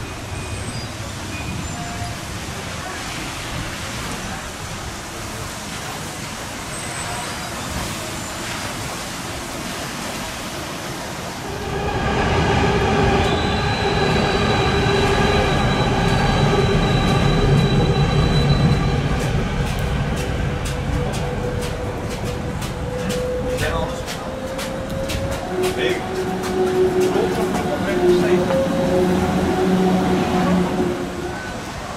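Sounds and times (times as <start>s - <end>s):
city background noise: 0.0s - 31.9s
tram rumbling with wheel whine: 0.0s - 31.9s.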